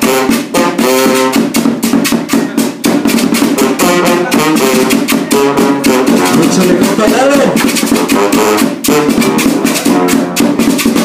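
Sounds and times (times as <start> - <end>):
brass and reed melody: 0.0 - 11.0
drums keeping a beat: 0.0 - 11.0.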